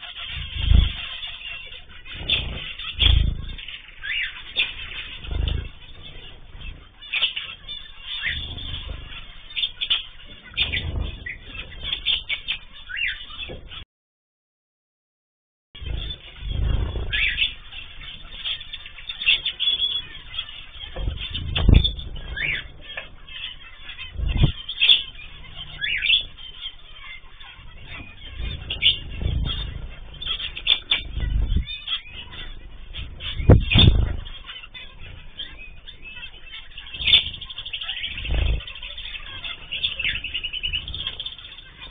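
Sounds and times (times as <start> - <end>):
low rumbling noise: 0.0 - 13.8, 15.8 - 41.9
small birds chirping and squawking: 0.0 - 13.8, 15.8 - 41.9
wing flutters: 0.0 - 13.8, 15.8 - 41.9
low thumps: 0.2 - 13.8, 15.8 - 41.9.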